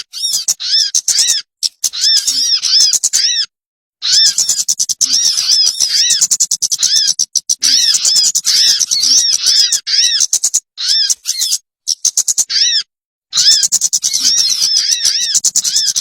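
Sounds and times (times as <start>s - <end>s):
recorded bird call chirping: 0.0s - 16.0s.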